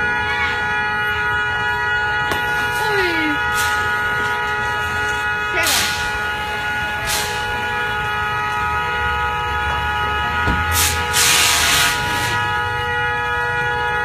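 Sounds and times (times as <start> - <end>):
car horn steady note: 0.0 - 14.0.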